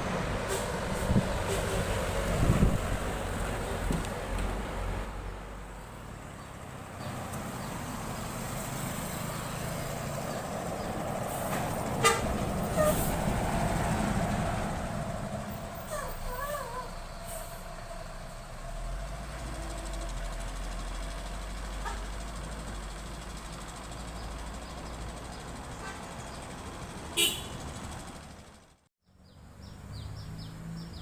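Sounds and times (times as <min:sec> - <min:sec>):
bus engine and tyre noise passing: 0:00.0 - 0:31.0.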